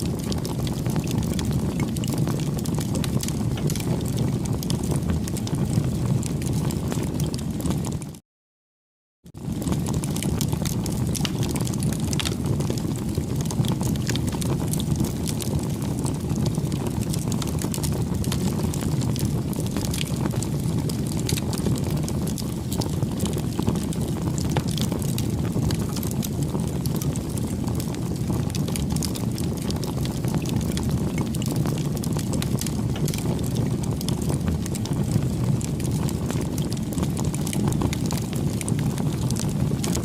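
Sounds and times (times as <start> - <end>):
burning wood crackling and popping: 0.0 - 8.1, 9.3 - 40.0
bonfire flames rumbling: 0.0 - 8.2, 9.3 - 40.0.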